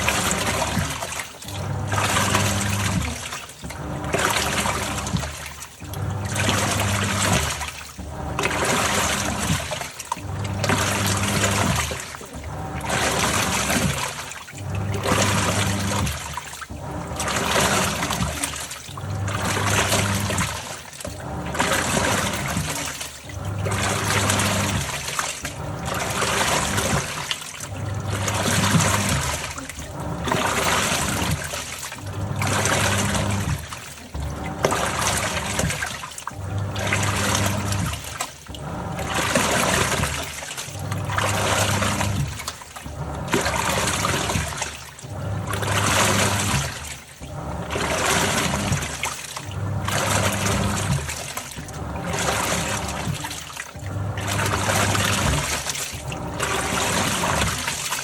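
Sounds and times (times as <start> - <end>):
washing machine motor humming: 0.0 - 58.0
water sloshing and churning: 0.0 - 58.0.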